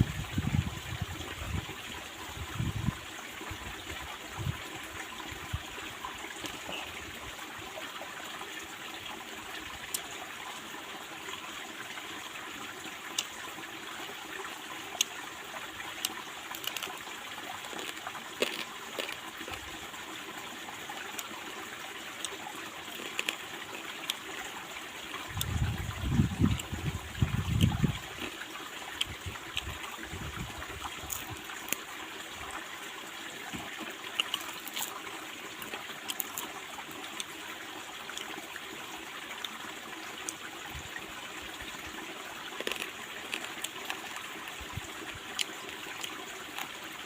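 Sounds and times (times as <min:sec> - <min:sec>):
stream babbling over rocks: 0:00.0 - 0:47.0.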